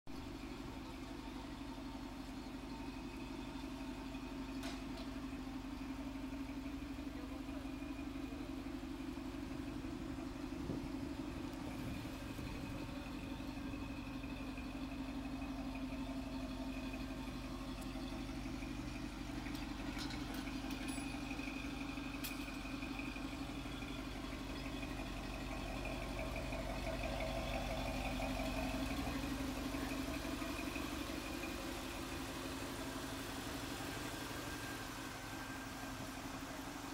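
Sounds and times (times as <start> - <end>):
vehicle engine idling: 0.1 - 36.9.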